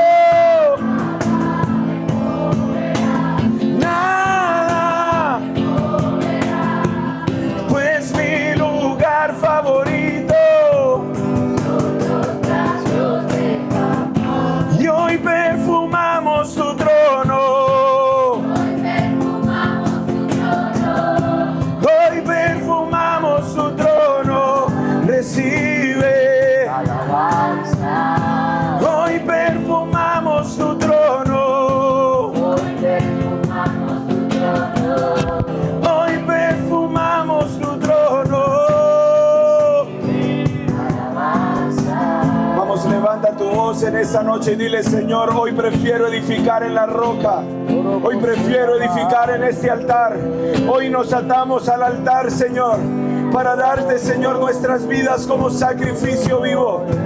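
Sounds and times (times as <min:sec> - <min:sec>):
voices singing together: 0:00.0 - 0:57.0.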